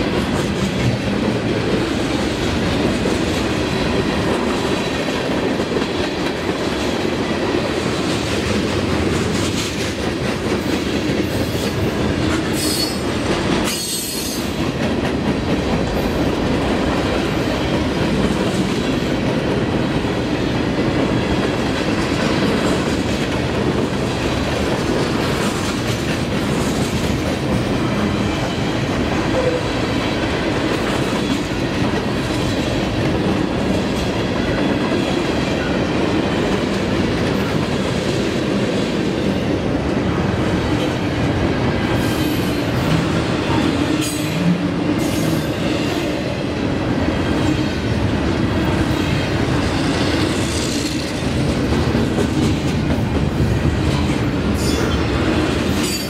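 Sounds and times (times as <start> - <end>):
freight train wheels rumbling: 0.0 - 56.0
rail cars clattering: 0.0 - 56.0.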